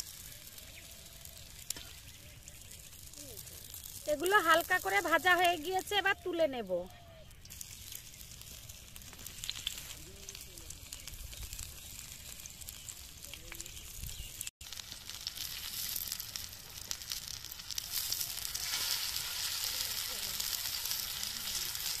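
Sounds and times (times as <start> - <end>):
food sizzling in oil on griddle: 0.0 - 22.0.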